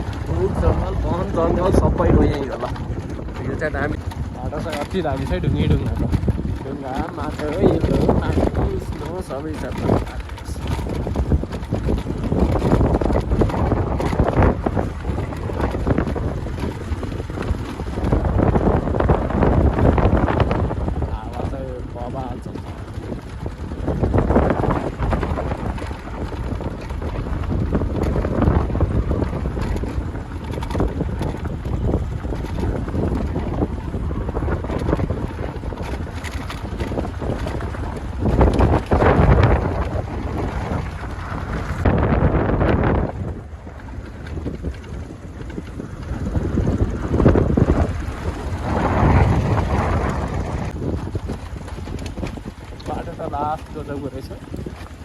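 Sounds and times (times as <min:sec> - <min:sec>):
motorcycle riding on rough track: 0:00.0 - 0:55.0
wind buffeting microphone: 0:00.0 - 0:55.0.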